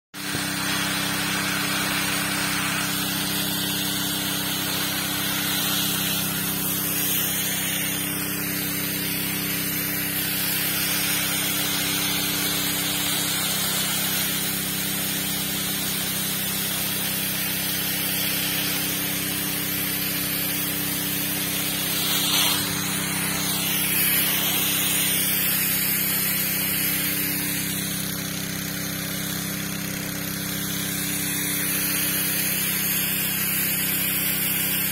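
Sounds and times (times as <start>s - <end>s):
motor pump humming: 0.2s - 34.9s
water jet hissing onto soil: 0.2s - 34.9s.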